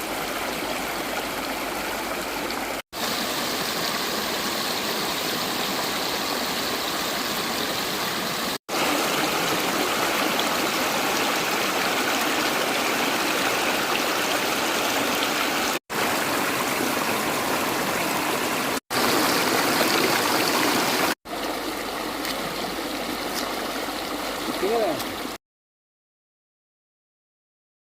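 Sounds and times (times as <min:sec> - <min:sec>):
fast-flowing stream water: 0:00.0 - 0:25.4.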